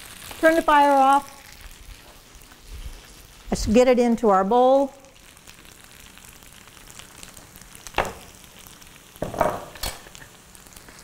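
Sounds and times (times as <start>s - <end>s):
spaghetti sizzling in a skillet: 0.0s - 11.0s.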